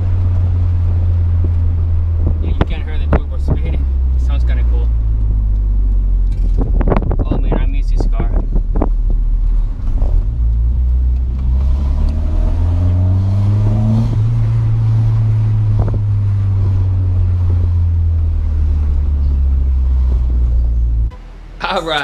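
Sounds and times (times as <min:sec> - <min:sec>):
car engine drone: 0:00.0 - 0:22.0.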